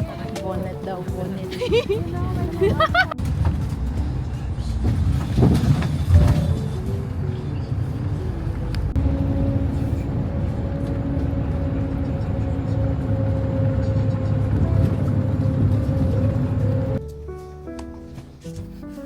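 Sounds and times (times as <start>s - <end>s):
wind buffeting microphone: 0.0s - 17.0s
background music: 0.0s - 19.0s.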